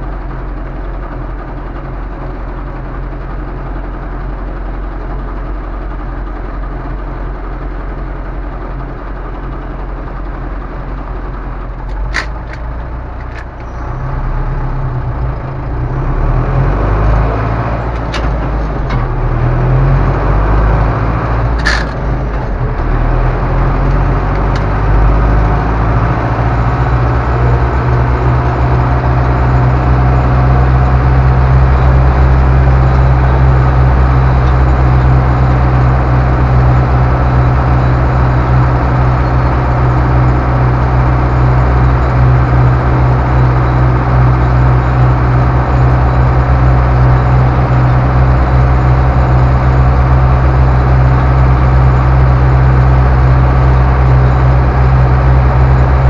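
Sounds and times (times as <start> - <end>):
tractor diesel engine droning: 0.0 - 56.0.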